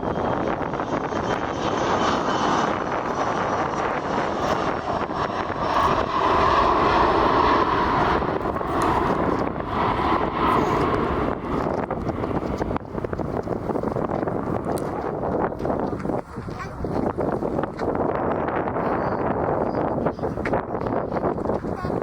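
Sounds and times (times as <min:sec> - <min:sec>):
airliner engines roaring: 0:00.0 - 0:22.0
wind buffeting microphone: 0:00.0 - 0:22.0.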